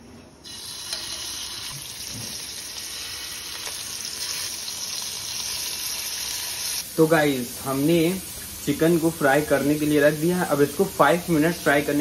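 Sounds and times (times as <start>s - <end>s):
meat sizzling in hot fat: 0.4s - 12.0s.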